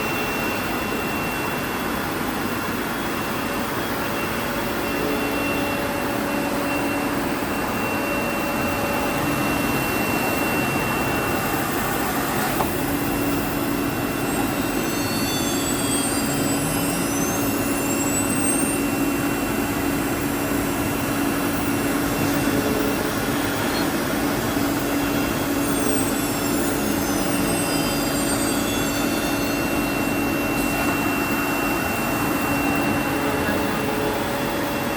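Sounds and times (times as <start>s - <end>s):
cnc router running: 0.0s - 34.9s
high machine whines: 0.0s - 34.9s.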